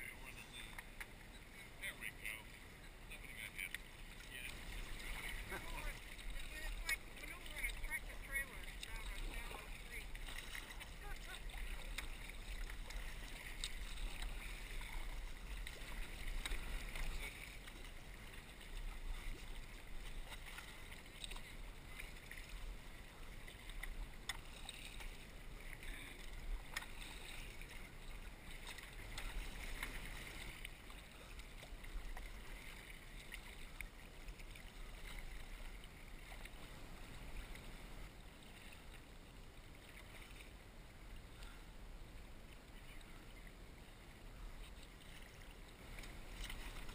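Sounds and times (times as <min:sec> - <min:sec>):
paddle drips and splashes: 0:00.0 - 0:46.9
water sloshing around kayak hull: 0:00.0 - 0:46.9.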